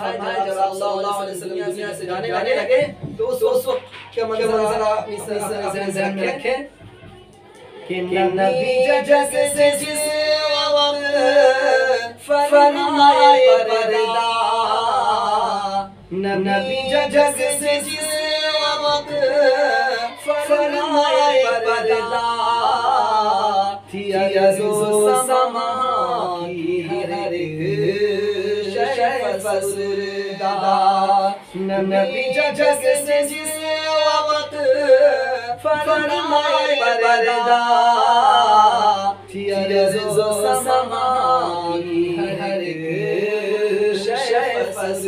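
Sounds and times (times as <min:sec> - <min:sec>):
man singing unaccompanied: 0:00.0 - 0:06.8, 0:07.8 - 0:45.0.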